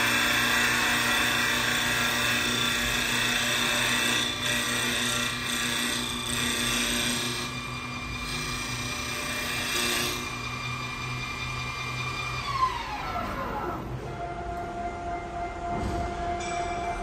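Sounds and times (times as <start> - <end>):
lathe motor hum and whine: 0.0 - 17.0.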